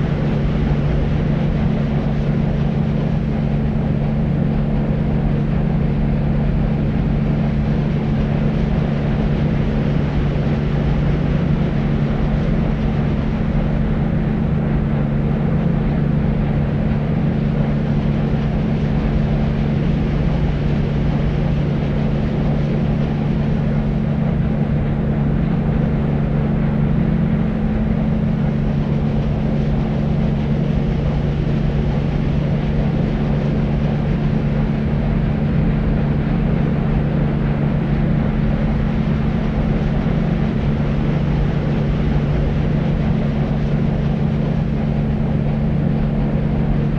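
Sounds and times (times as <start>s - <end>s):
deep white noise: 0.0s - 46.9s
steady low hum: 0.0s - 46.9s.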